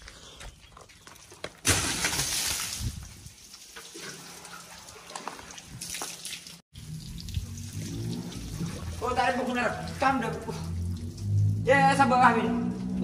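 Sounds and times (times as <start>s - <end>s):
water dripping: 0.0s - 13.0s
water splashing: 0.7s - 11.7s.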